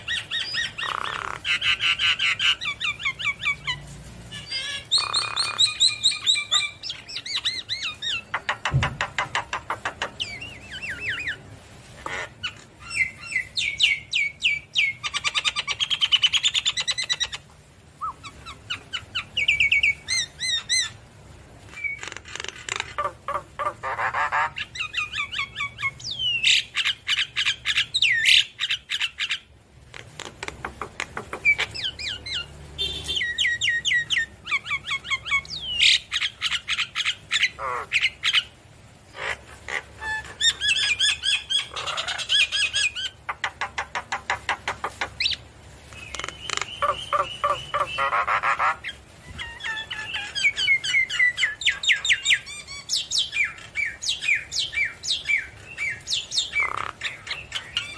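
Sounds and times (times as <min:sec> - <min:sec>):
bird chattering and whistling: 0:00.0 - 0:17.4, 0:18.0 - 0:21.0, 0:21.7 - 0:38.6, 0:39.2 - 0:57.9.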